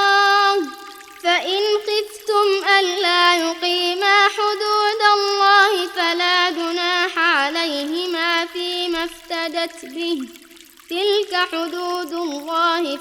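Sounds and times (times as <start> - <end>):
person reciting in melodic chant: 0.0 - 10.3, 11.0 - 13.0.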